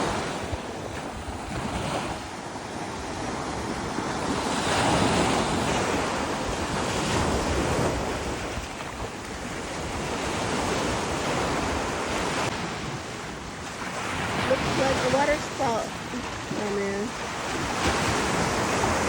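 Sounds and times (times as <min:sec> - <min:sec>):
wind and waves rushing: 0:00.0 - 0:19.0
wind buffeting microphone: 0:00.0 - 0:19.0.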